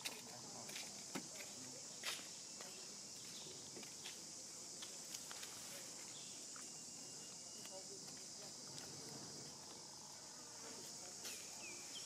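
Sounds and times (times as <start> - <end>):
insect hiss: 0.0 - 12.0.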